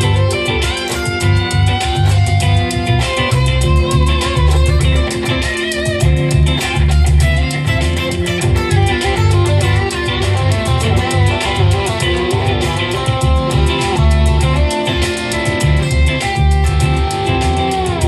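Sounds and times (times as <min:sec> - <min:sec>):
electric guitar lead with bent notes: 0:00.0 - 0:18.0
rock backing track: 0:00.0 - 0:18.0.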